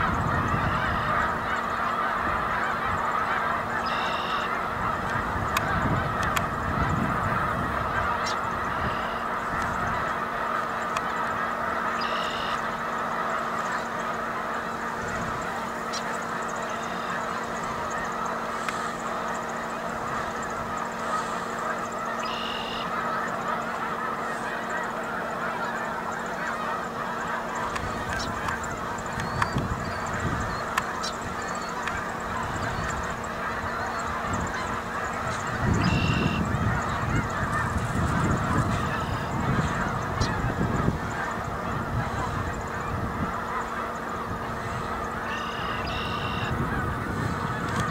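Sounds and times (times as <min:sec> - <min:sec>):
geese honking: 0:00.0 - 0:47.9.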